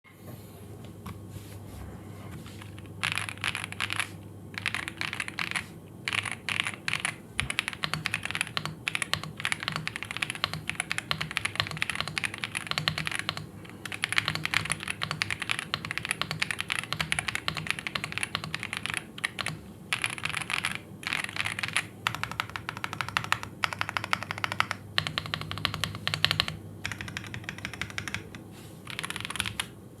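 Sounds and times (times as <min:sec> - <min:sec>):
mechanical keyboard typing: 0:02.6 - 0:29.8.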